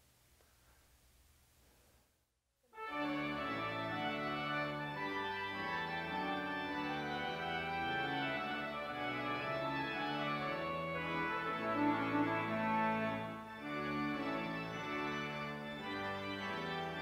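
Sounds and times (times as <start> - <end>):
organ playing held chords: 2.8 - 17.0.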